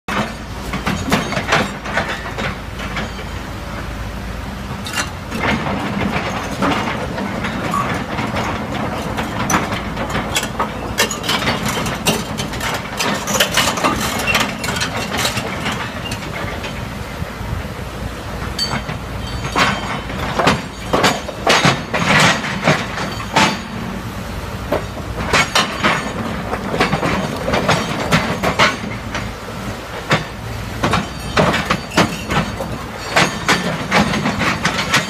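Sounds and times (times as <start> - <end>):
excavator diesel engine running: 0.1 - 35.0.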